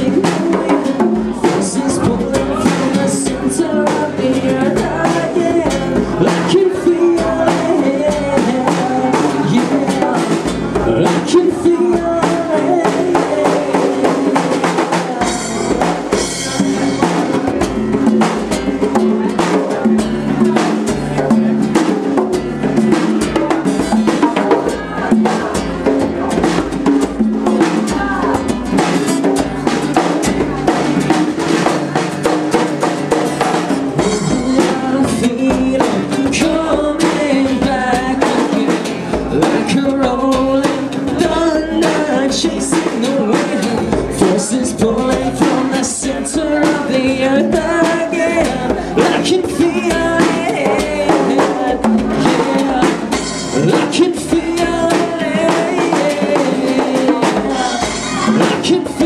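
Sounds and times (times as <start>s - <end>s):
acoustic guitar strummed: 0.0s - 59.0s
man singing: 0.0s - 59.0s
percussive beat: 0.0s - 59.0s.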